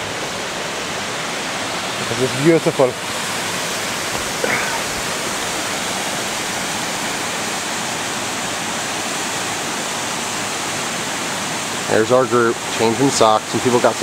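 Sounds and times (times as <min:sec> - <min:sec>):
waterfall pouring over rock: 0:00.0 - 0:14.0.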